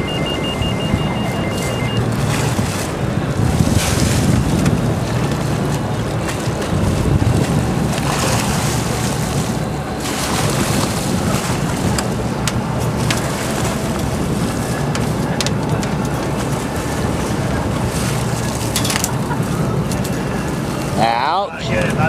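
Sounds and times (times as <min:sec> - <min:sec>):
wind buffeting microphone: 0:00.0 - 0:21.0
boat engine running: 0:00.0 - 0:22.0
water washing against hull: 0:00.0 - 0:22.0.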